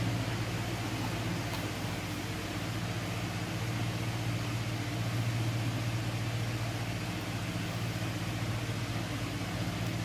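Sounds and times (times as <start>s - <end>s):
low machine hum with hiss: 0.0s - 10.0s.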